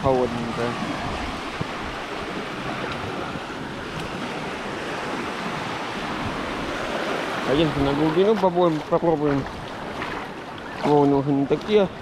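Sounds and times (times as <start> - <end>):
small waves washing onto beach: 0.0 - 12.0.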